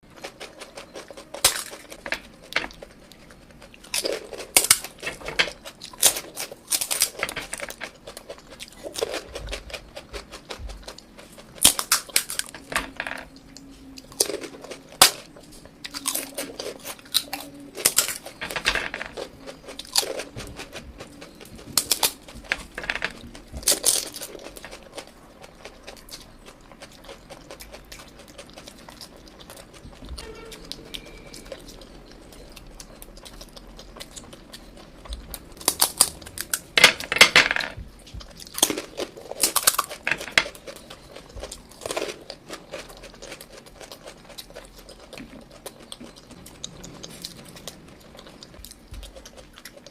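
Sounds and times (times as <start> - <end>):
crunching and chewing crispy food: 0.0 - 37.1, 37.8 - 49.9.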